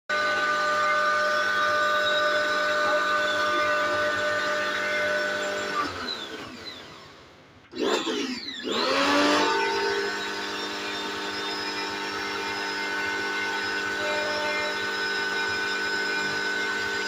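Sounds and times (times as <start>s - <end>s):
small electric motor whining: 0.1s - 17.0s.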